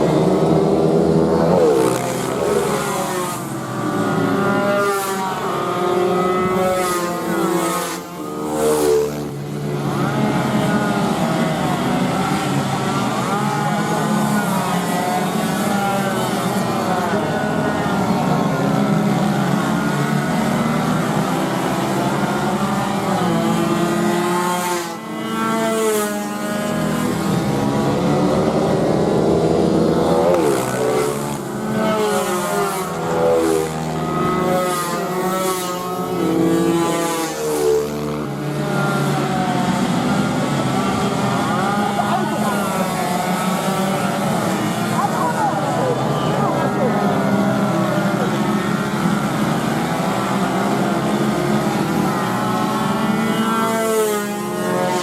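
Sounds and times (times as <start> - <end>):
racing motorcycle engines revving: 0.0 - 55.0.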